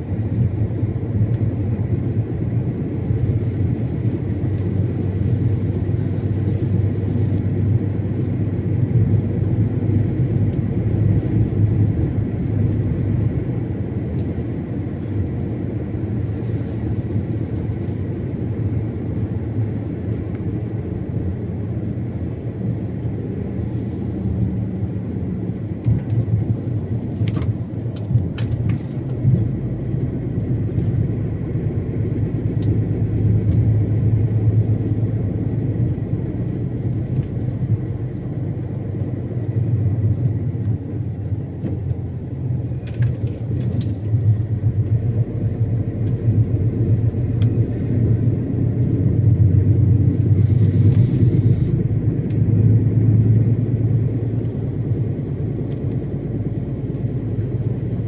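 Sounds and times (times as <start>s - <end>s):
diesel truck engine drone: 0.0s - 58.0s
road and tyre noise: 0.0s - 58.0s.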